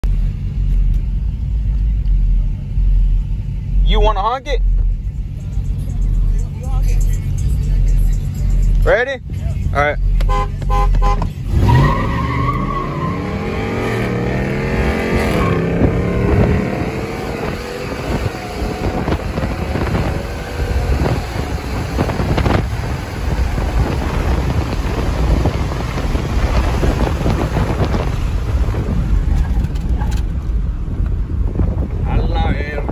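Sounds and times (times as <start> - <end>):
truck engine at full throttle: 0.0 - 32.9
wind and road noise: 0.0 - 32.9.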